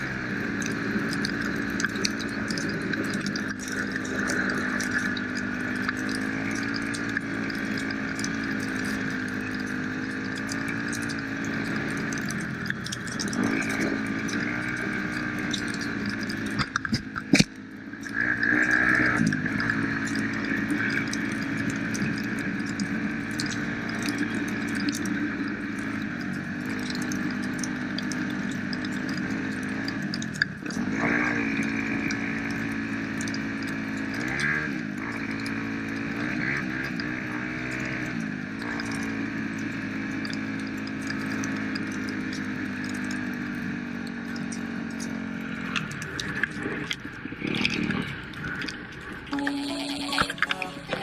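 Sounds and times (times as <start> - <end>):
dirt bike engine revving: 0.0 - 30.0, 30.6 - 51.0.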